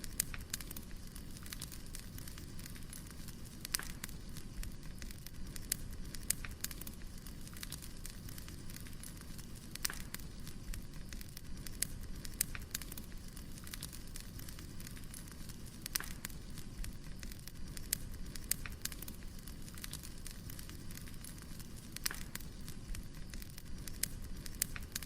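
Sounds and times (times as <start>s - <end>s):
firewood burning and crackling: 0.0s - 25.0s.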